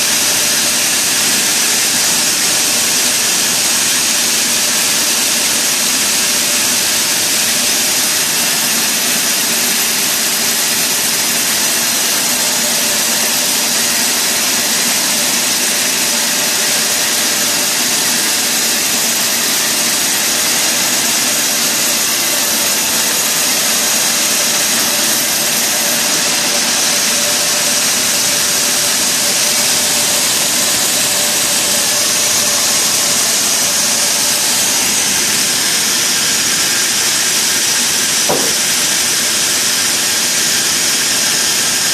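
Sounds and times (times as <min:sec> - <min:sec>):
sawmill saw hissing: 0:04.7 - 0:41.9.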